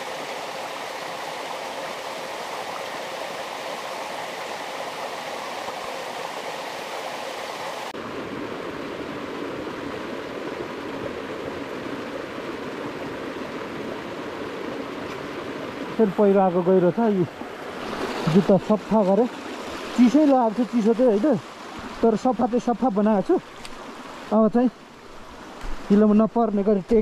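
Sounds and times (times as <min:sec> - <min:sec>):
stream rushing water: 0:00.0 - 0:27.0.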